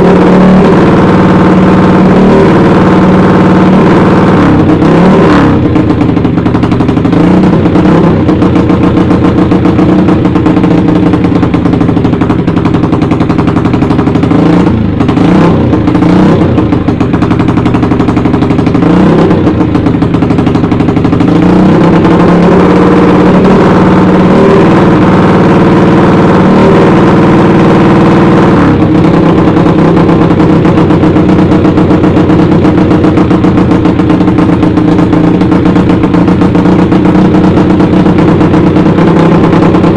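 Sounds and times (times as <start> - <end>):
motorcycle engine with loud exhaust: 0.0 - 39.9.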